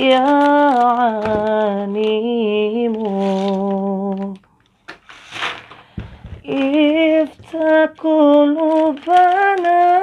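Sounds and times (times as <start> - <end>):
foil snack packet crinkling: 0.0 - 4.5, 6.4 - 10.0.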